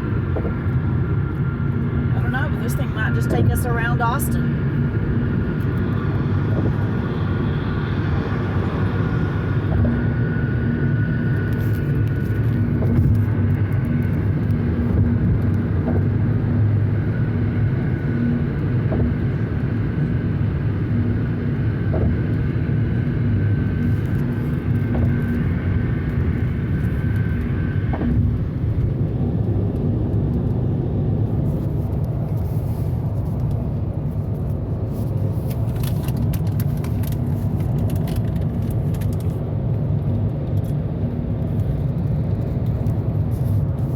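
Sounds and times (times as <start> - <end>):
car cabin road rumble: 0.0 - 43.9
faint steady whine: 0.0 - 43.9.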